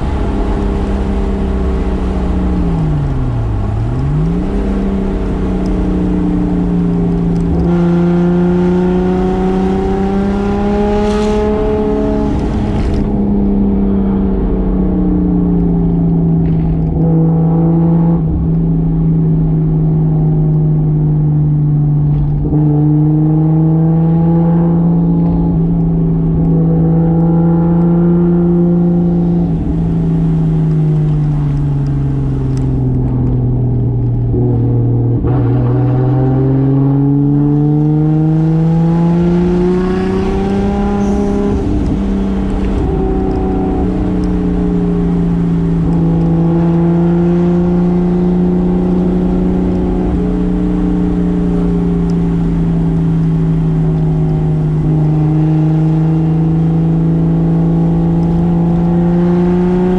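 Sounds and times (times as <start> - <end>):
car engine revving on the road: 0.0 - 59.9.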